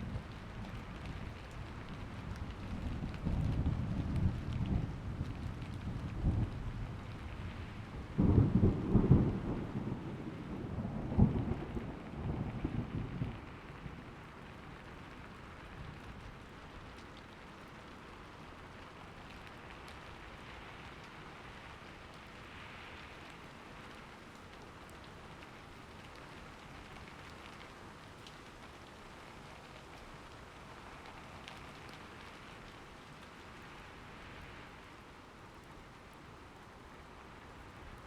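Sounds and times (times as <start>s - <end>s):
rain pattering on surfaces: 0.0s - 38.0s.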